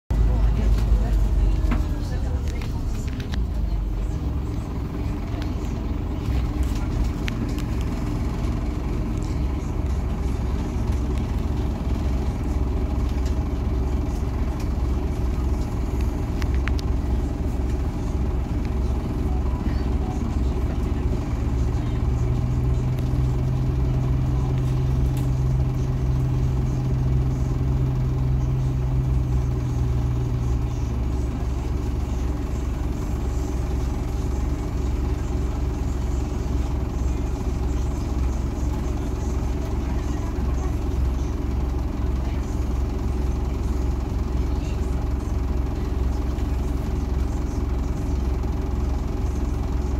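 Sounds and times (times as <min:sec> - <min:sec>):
bus engine humming: 0:00.1 - 0:49.9.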